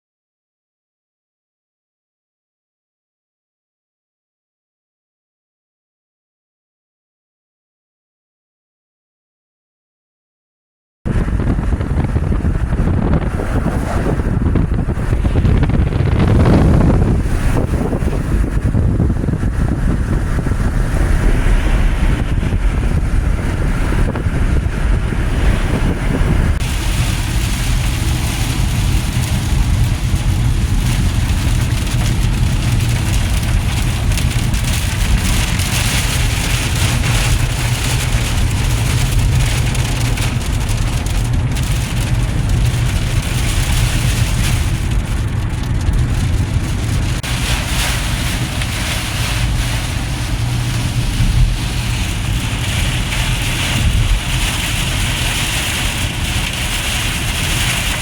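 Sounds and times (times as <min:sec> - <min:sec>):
vehicle low rumble: 0:11.1 - 0:58.0
wind and rain hiss: 0:11.1 - 0:58.0.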